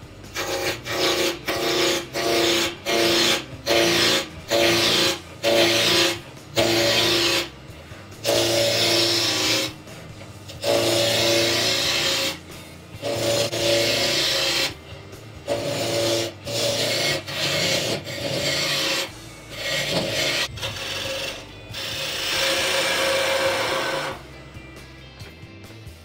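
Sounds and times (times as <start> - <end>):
lathe tool scraping wood: 0.0 - 24.2
lathe motor hum: 0.0 - 24.4.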